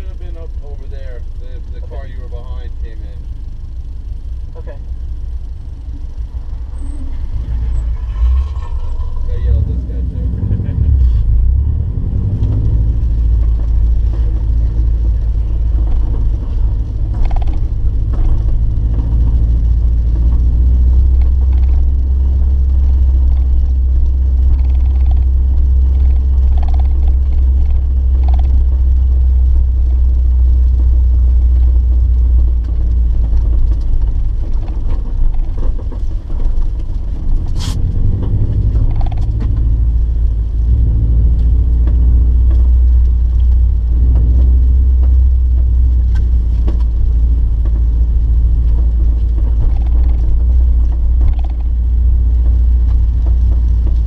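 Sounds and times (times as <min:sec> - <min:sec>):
car engine rumble from inside: 0:00.0 - 0:54.0.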